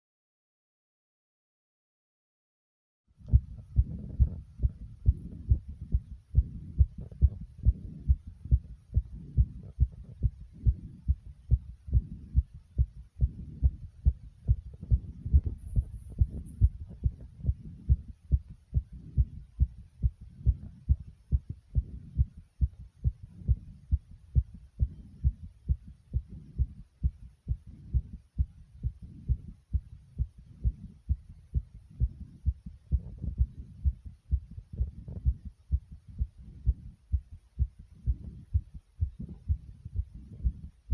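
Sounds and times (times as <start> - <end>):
heart beating fast: 3.2 - 40.9.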